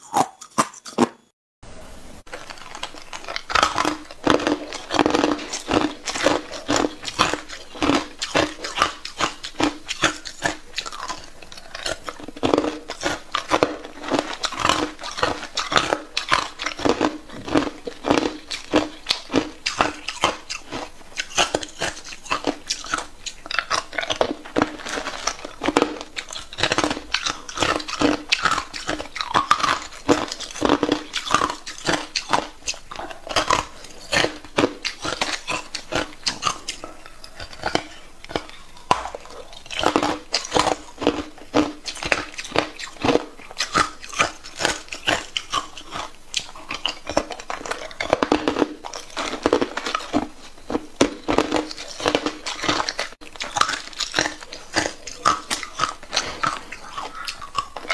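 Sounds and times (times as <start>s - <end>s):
ice being chewed: 0.0s - 1.3s, 2.2s - 57.9s.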